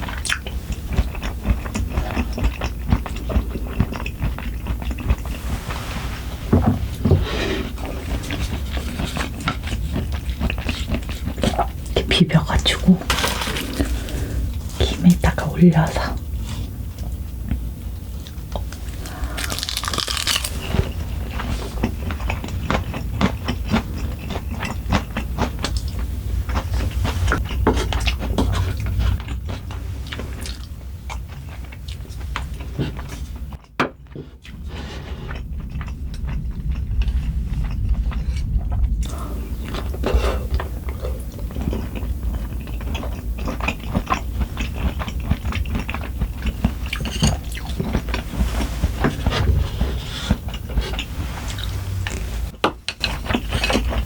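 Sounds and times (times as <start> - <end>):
person chewing crunchy food: 0.0 - 5.9, 6.9 - 12.0, 16.2 - 54.0.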